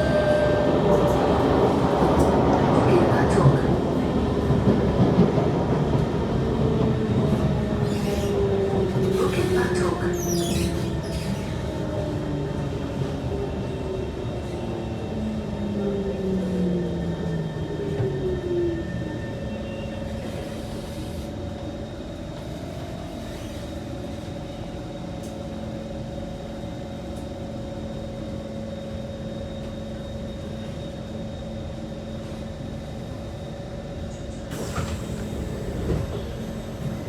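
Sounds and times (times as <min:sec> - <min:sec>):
train equipment hum: 0:00.0 - 0:37.0.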